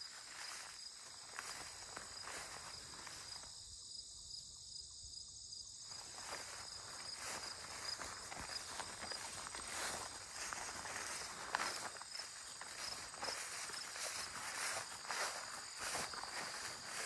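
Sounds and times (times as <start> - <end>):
footsteps rustling through grass: 0.0 - 3.6, 5.9 - 17.0
crickets trilling: 0.0 - 17.0.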